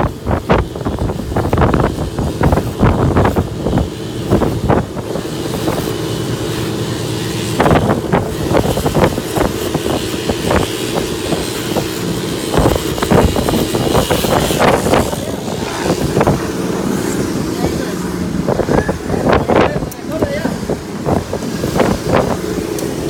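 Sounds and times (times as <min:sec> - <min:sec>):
engine knocks and rattles: 0:00.0 - 0:23.0
vehicle engine running: 0:00.0 - 0:23.0.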